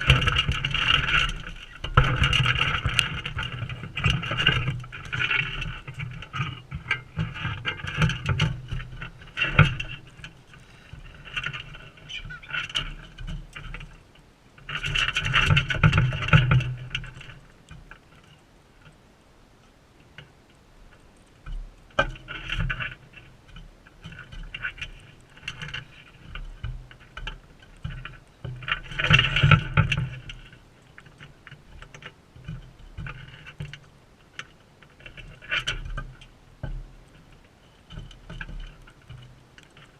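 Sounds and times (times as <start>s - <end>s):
birds scraping and tapping at feeder: 0.0s - 19.0s, 19.6s - 39.9s.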